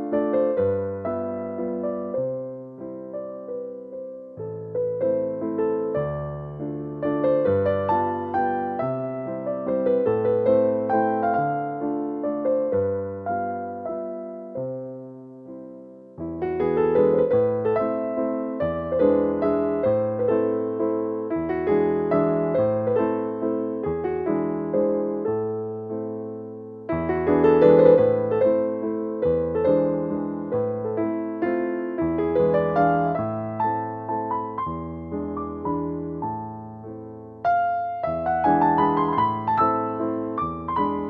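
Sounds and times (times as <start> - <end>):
electric piano music: 0.0 - 41.0.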